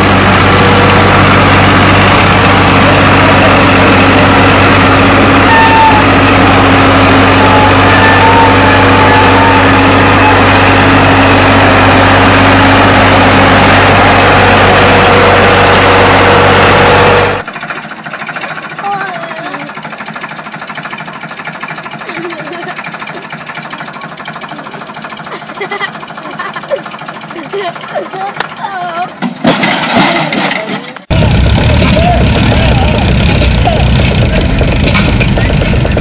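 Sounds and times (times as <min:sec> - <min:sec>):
tractor diesel engine under load: 0:00.0 - 0:36.0.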